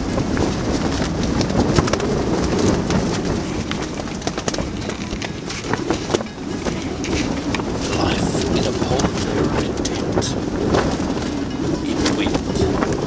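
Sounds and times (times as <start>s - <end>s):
strong wind rumbling: 0.0s - 13.0s
tent canvas snapping and rattling: 0.0s - 13.0s.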